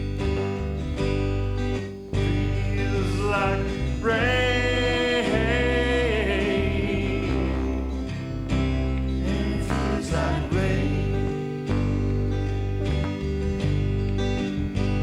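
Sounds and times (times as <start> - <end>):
country band music: 0.0 - 15.0.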